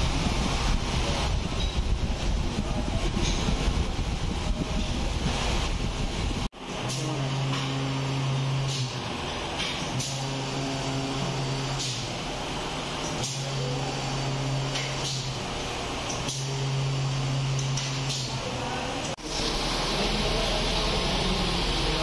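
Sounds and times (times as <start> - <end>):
machine hissing: 0.0 - 22.0
machine humming: 0.0 - 22.0.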